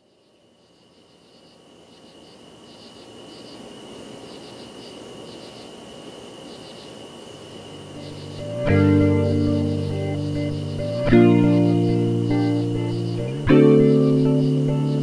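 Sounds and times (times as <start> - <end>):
insects chirping: 0.0 - 15.0
steady high whine: 0.0 - 15.0.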